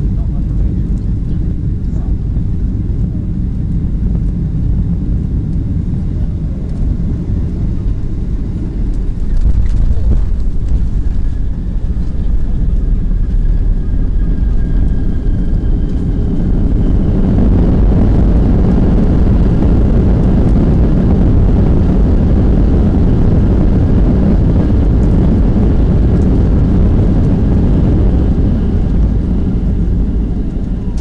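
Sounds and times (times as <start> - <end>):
jet engines roaring in cabin: 0.0 - 31.0.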